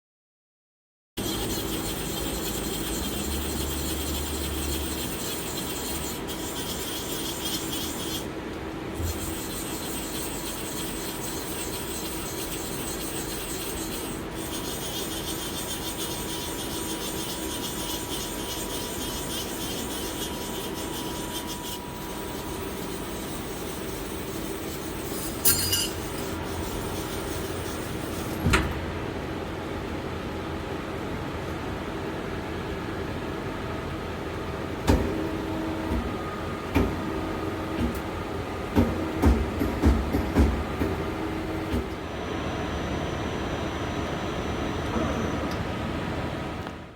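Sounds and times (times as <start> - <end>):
lathe humming and whining: 1.2 - 46.9.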